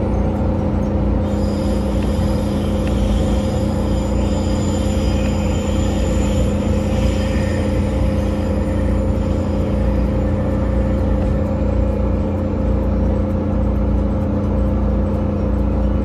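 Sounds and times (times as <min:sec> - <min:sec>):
constant low hum: 0:00.0 - 0:16.0
train wheels rumbling on rail: 0:00.0 - 0:16.0.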